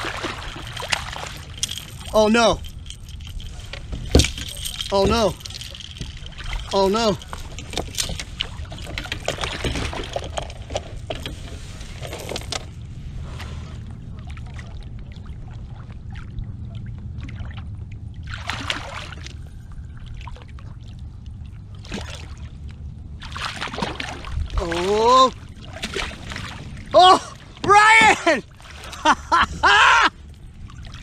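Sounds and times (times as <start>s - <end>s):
water splashing: 0.0s - 10.4s, 14.2s - 31.0s.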